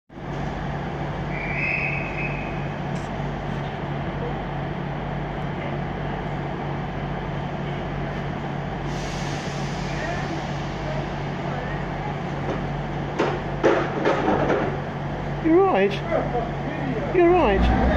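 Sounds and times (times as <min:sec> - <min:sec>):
diesel engines idling: 0:00.1 - 0:17.9.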